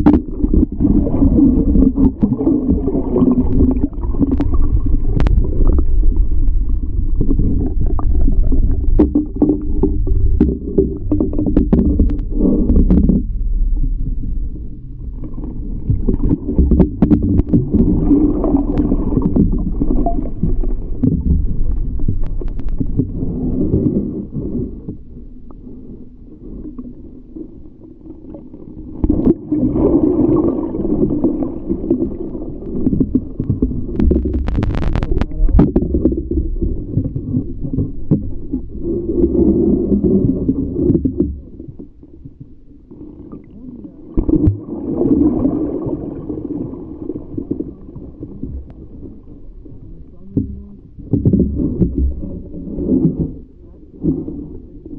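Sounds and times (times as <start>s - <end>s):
muffled underwater rumble: 0.0s - 54.9s.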